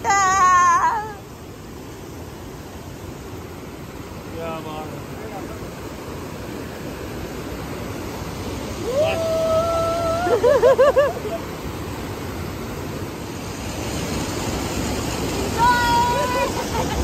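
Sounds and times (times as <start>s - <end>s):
mountain stream over rocks: 0.0s - 17.0s.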